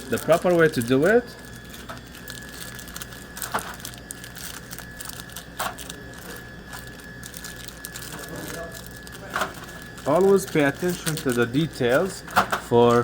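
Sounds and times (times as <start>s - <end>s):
sharp plastic crackles: 0.0s - 12.7s
plastic wrappers crinkling: 0.0s - 13.0s.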